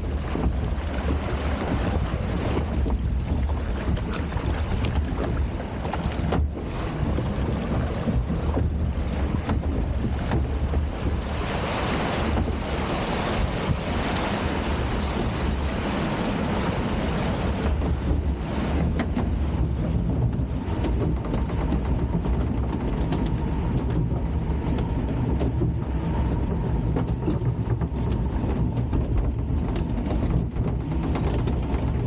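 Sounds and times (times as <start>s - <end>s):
rushing water: 0.0s - 32.0s
wind buffeting microphone: 0.0s - 32.0s.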